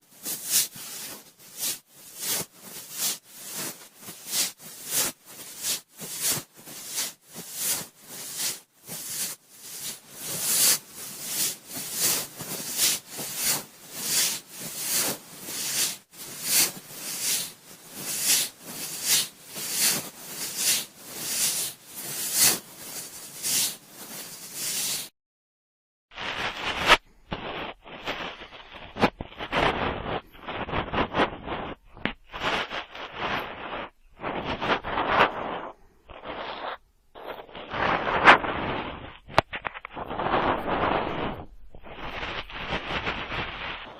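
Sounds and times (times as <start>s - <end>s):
cotton swab rubbing microphone: 0.0s - 25.1s, 26.2s - 43.9s.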